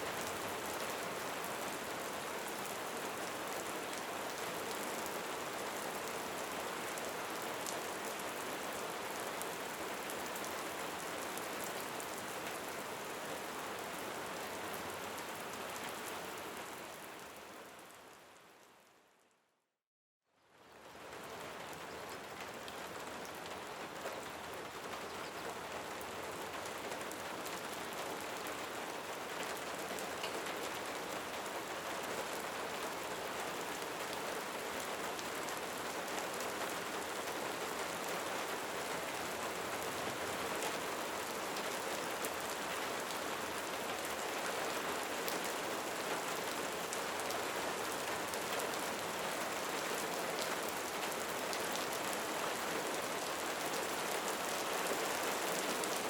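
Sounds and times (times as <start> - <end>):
steady rain hiss: 0.0 - 18.5, 20.6 - 56.0.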